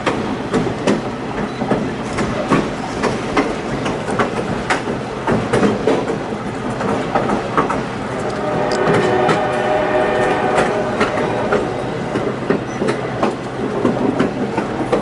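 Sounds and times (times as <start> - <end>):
rattling train car: 0.0 - 15.0
train wheels rumbling: 0.0 - 15.0
wheels clacking on rail joints: 0.0 - 15.0.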